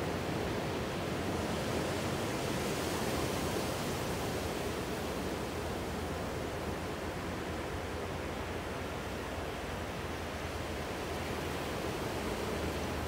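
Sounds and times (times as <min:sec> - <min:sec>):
ocean surf washing ashore: 0:00.0 - 0:13.0.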